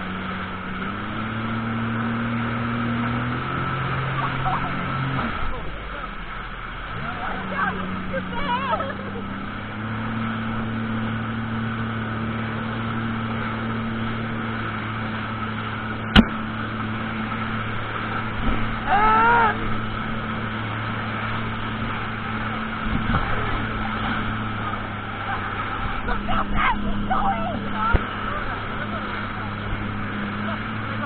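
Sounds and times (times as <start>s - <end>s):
jet ski engine running: 0.0s - 31.0s.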